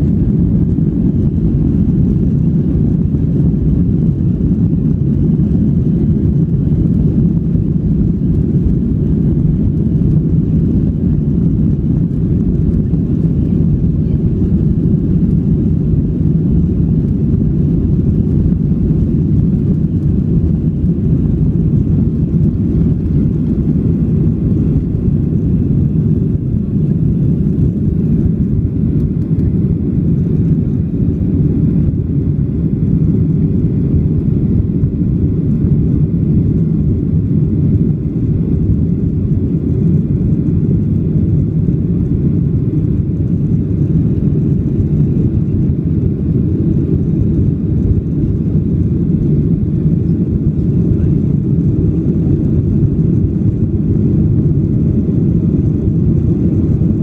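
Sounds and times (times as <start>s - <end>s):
jet cabin rumble: 0.0s - 57.0s.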